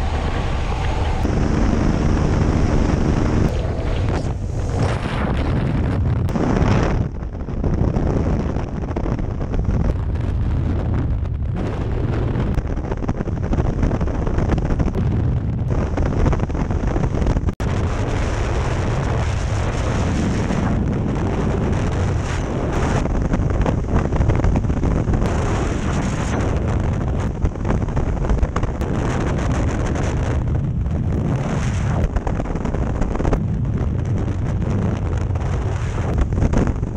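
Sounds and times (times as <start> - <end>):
wind buffeting microphone: 0.0 - 36.9.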